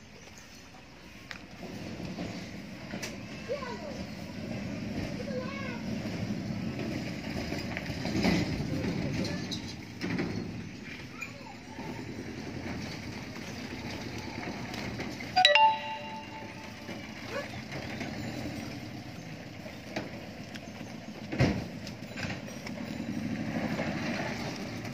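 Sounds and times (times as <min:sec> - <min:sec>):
outdoor traffic hum: 0:00.0 - 0:24.9.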